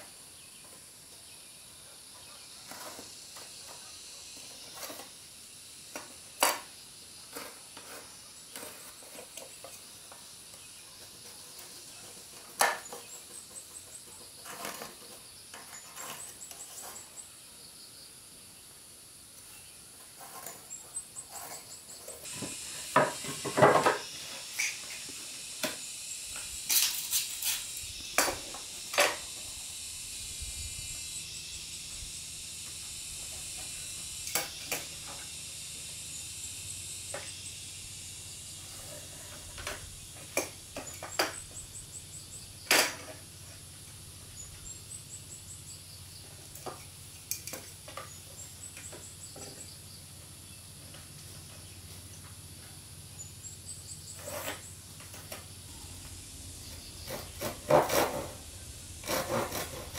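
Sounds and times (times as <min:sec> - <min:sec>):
high-pitched background hiss: 0:00.0 - 0:59.9.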